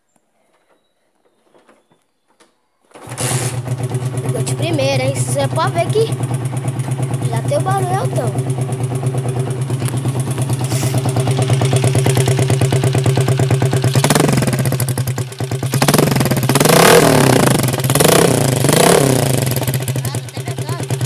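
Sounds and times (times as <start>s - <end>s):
motorcycle engine idling and revving: 3.0s - 21.0s.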